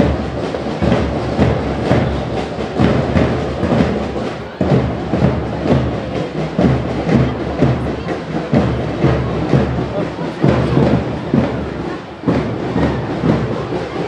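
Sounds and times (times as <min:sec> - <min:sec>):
marching band drums: 0:00.0 - 0:14.0.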